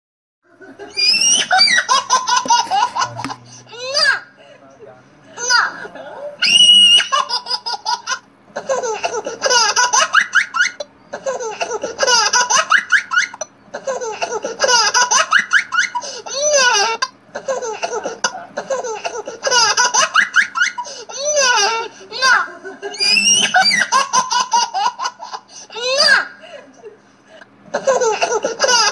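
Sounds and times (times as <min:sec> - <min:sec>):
high-pitched laughter: 0:00.6 - 0:04.3, 0:05.4 - 0:26.4, 0:27.7 - 0:28.9.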